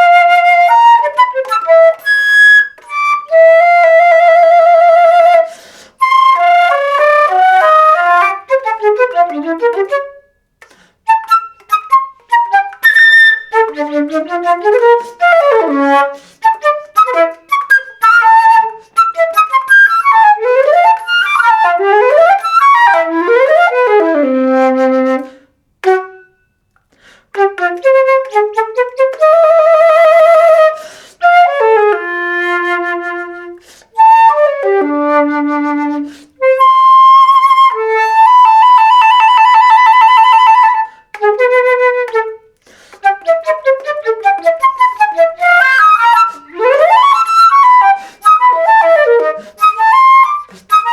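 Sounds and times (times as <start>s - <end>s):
solo flute playing: 0.0s - 26.7s, 27.3s - 50.9s.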